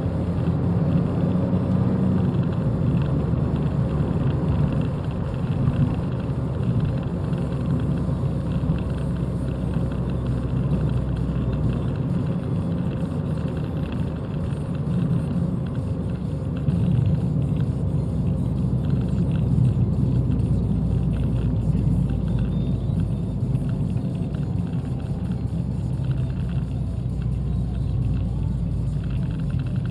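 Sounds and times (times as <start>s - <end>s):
car engine rumble in cabin: 0.0s - 29.9s.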